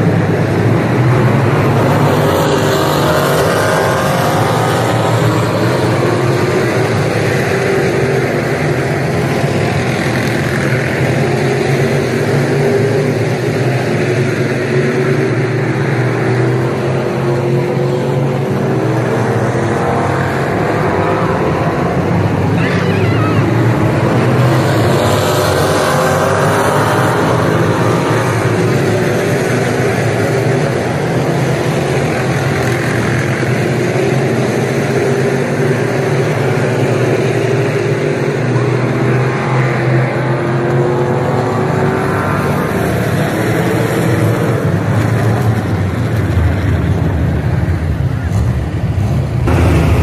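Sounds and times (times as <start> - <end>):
race car engines passing: 0.0 - 50.0.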